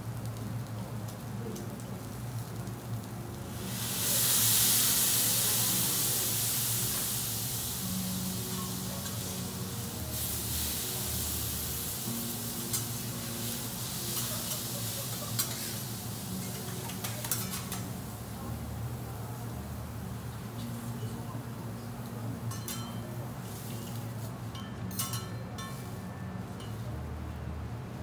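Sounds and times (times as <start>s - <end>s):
liquor flaring and sizzling: 0.0s - 28.0s.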